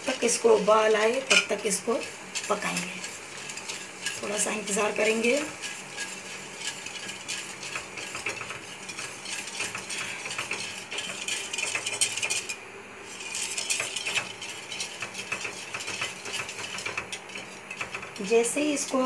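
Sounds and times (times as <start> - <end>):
whisk rattling in steel pot: 0.0 - 19.0.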